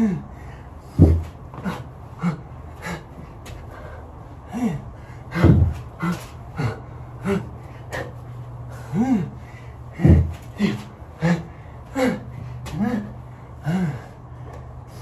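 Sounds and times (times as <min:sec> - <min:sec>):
man breathing hard and grunting: 0:00.0 - 0:15.0.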